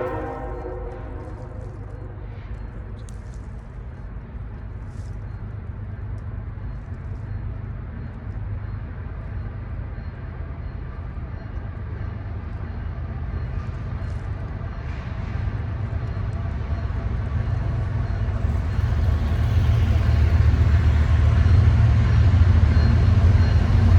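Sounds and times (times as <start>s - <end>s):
diesel locomotives rumbling: 0.0s - 23.9s.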